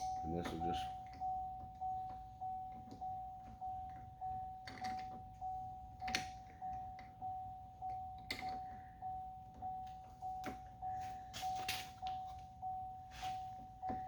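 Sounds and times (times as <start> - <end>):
vehicle warning chime dinging: 0.0 - 14.0.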